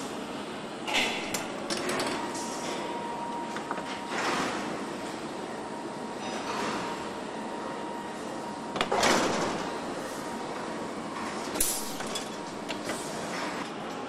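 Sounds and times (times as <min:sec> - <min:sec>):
factory background noise: 0:00.0 - 0:14.0.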